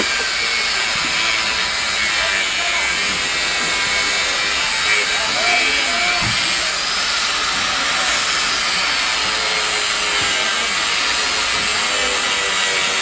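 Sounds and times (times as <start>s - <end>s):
angle grinder cutting metal: 0.0s - 13.0s.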